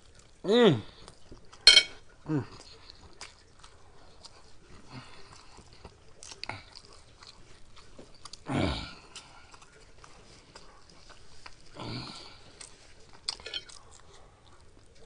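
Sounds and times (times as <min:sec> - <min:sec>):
person chewing noodles: 0:00.0 - 0:15.0.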